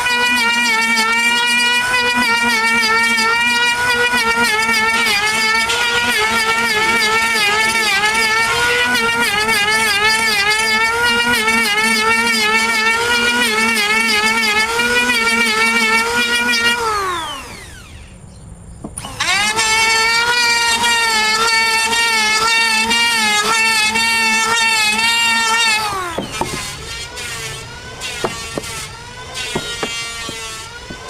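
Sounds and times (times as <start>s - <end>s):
woodworking machine whining: 0.0s - 31.0s.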